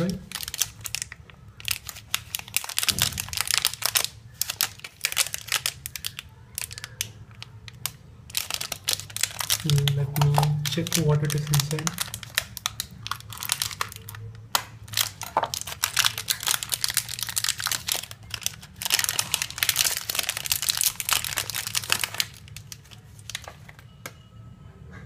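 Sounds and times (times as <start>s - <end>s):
plastic wrapper crinkling and tearing: 0.0s - 23.9s.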